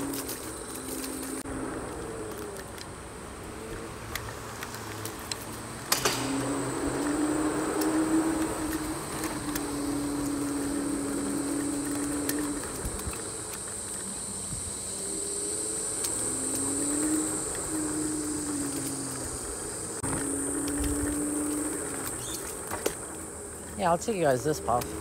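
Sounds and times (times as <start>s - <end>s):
electric scooter motor whine: 0.0s - 25.0s
road noise: 0.0s - 25.0s.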